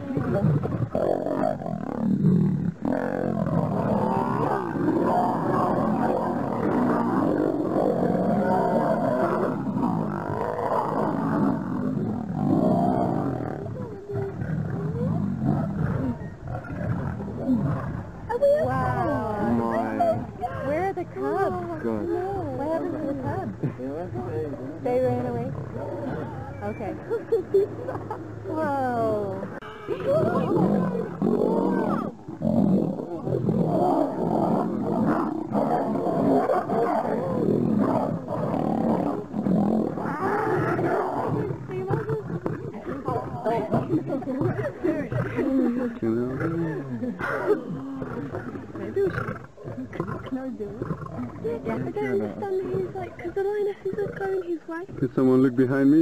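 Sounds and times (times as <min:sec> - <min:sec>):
lions growling and snarling: 0:00.0 - 0:55.4.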